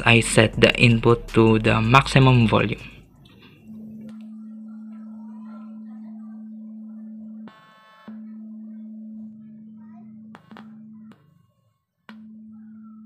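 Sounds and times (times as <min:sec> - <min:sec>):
low test tone from loudspeaker: 0:00.0 - 0:13.0
quiet buzz: 0:00.0 - 0:13.0.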